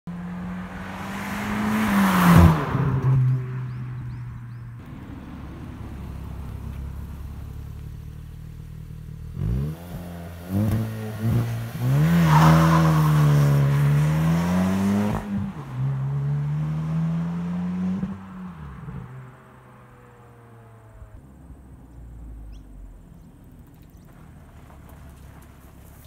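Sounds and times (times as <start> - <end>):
car engine accelerating hard: 0.1 - 25.7.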